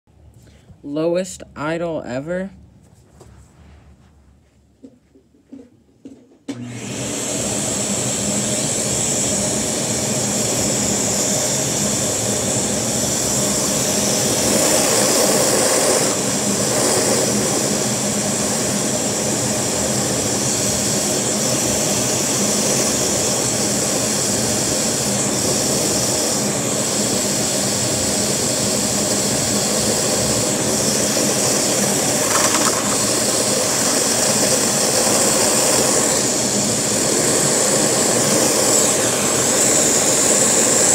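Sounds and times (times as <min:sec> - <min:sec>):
vacuum cleaner motor whining: 0:06.5 - 0:26.7, 0:27.3 - 0:40.9.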